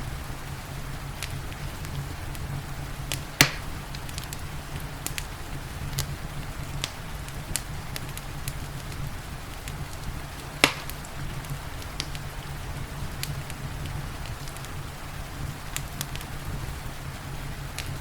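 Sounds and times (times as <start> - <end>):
fire popping: 0.0 - 18.0
rain hissing: 0.0 - 18.0
wood fire crackling: 0.0 - 18.0.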